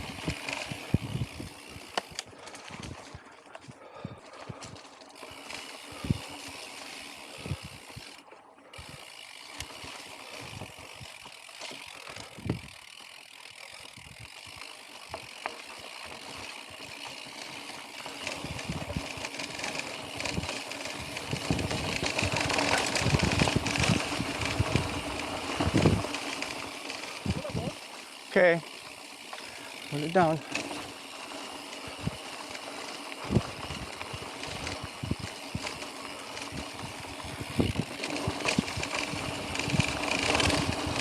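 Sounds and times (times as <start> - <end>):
bike rattling: 0.0 - 41.0
bike tyres rolling on dirt: 0.0 - 41.0.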